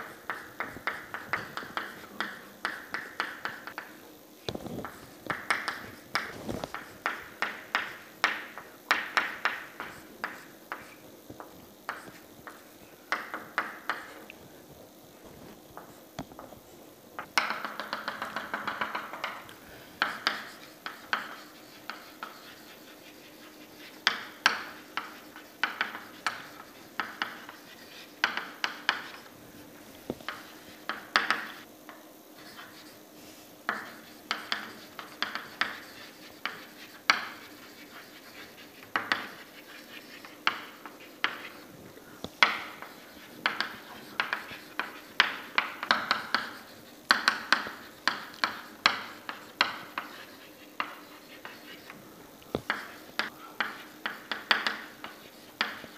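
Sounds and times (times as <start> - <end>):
chalk scratching strokes: 0.0 - 14.3, 17.4 - 31.7, 32.3 - 52.0, 52.6 - 55.9
chalk tapping on chalkboard: 0.0 - 14.3, 15.8 - 16.6, 17.2 - 29.3, 30.0 - 55.9.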